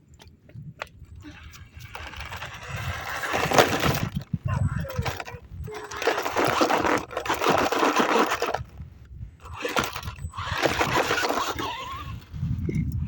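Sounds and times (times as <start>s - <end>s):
toy car crackling over rough ground: 1.0s - 13.0s.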